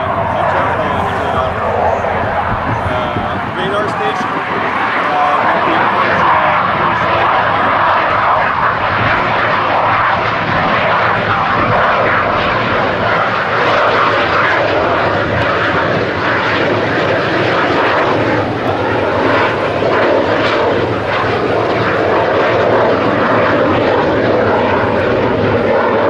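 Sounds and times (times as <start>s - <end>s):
fighter jet flying overhead: 0.0s - 26.0s.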